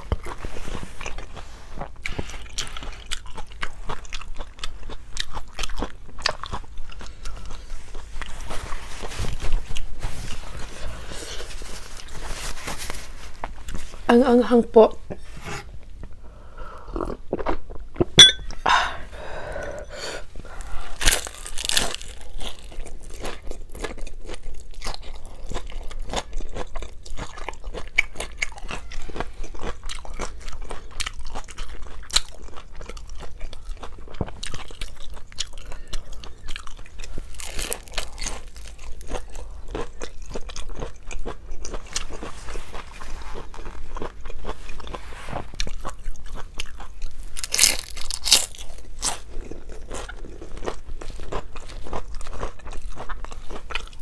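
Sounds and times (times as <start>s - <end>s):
chewing and crunching spring roll: 0.0s - 14.1s, 16.8s - 18.2s, 20.4s - 54.0s.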